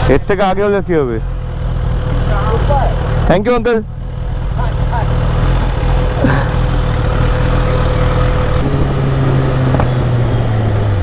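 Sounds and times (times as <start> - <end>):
motorcycle engine running: 0.0 - 11.0
street traffic: 0.0 - 11.0.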